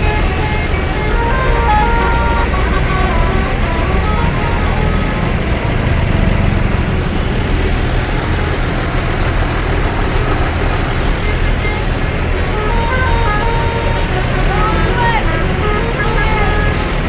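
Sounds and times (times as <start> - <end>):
bus engine rumbling: 0.0 - 17.0
multi-tone bus horn: 0.0 - 17.0.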